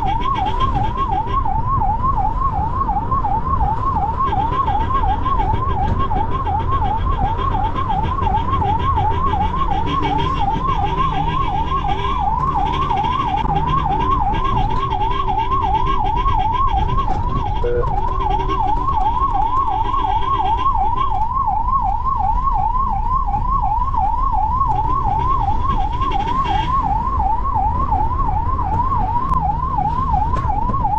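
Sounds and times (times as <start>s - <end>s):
ambulance siren wailing: 0.0s - 30.9s
engine and road noise: 0.0s - 30.9s.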